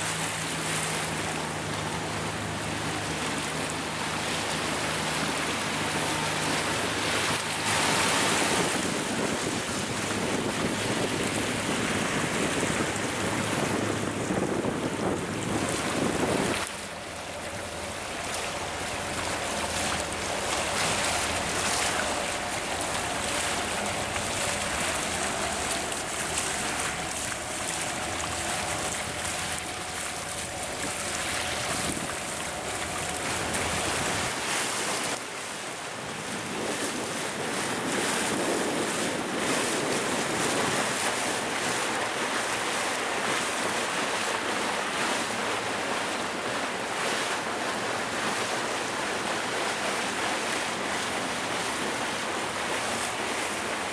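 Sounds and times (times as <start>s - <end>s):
wind buffeting microphone: 0.0s - 35.3s, 35.9s - 53.9s
boat engine hum: 0.0s - 53.9s
water rushing along boat hull: 0.0s - 53.9s.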